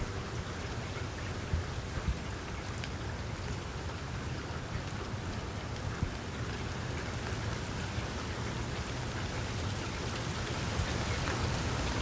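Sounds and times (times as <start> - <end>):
rain falling: 0.0 - 12.0
raindrops ticking: 0.6 - 12.0.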